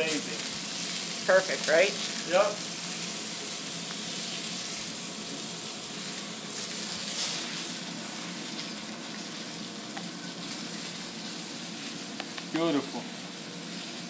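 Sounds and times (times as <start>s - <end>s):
steaks sizzling on a grill pan: 0.0s - 14.0s.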